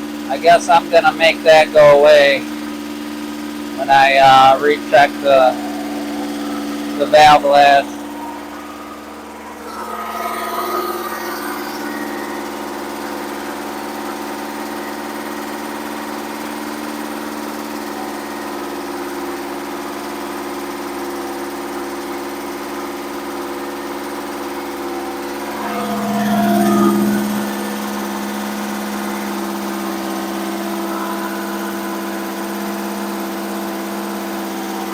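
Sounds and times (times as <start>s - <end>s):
engine running: 0.0s - 34.9s
loud engine lifters ticking: 0.0s - 34.9s.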